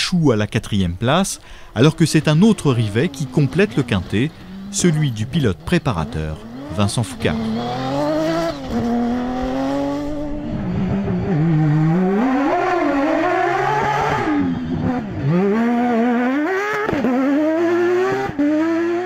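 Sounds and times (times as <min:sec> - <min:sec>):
rally car engine revving: 0:01.8 - 0:19.0.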